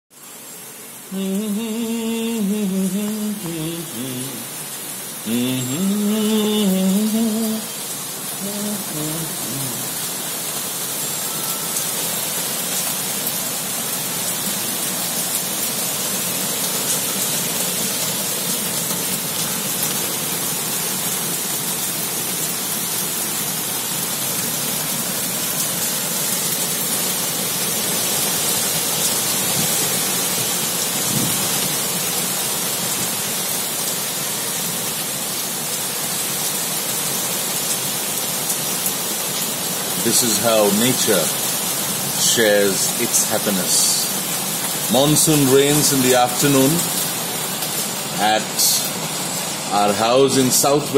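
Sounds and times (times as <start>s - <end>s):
heavy rain on foliage: 0.1s - 50.9s.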